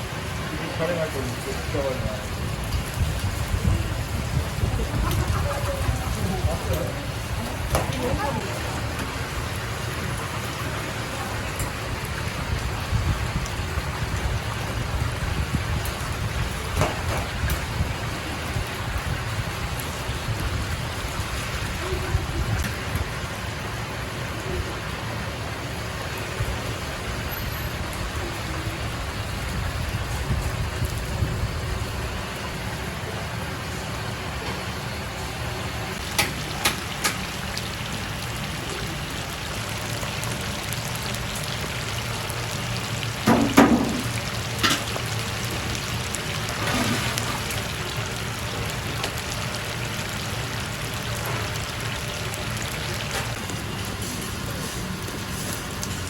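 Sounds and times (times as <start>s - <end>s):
chicken deep-frying in oil: 0.0s - 56.0s.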